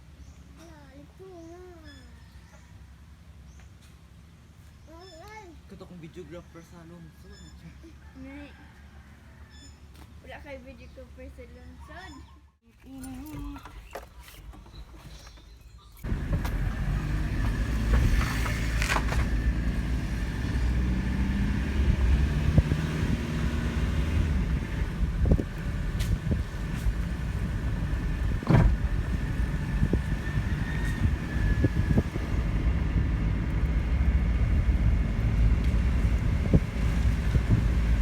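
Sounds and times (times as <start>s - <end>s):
motor vehicle engine rumble: 0.0s - 38.0s.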